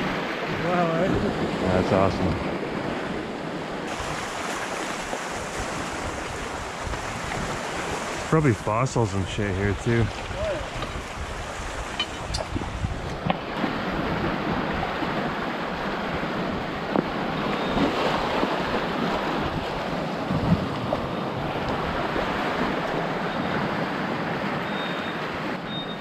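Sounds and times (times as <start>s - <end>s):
wind rushing on microphone: 0.0s - 25.7s.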